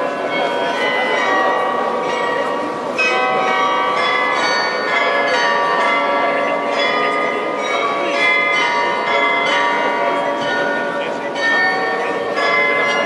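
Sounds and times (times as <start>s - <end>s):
glockenspiel bells playing a tune: 0.0s - 13.0s.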